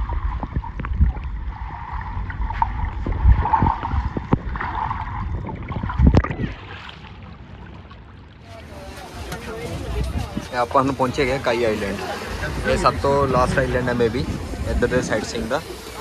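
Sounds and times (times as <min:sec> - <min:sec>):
wind on microphone: 0:00.0 - 0:06.9, 0:08.6 - 0:16.0
motorboat engine rumble: 0:00.0 - 0:16.0.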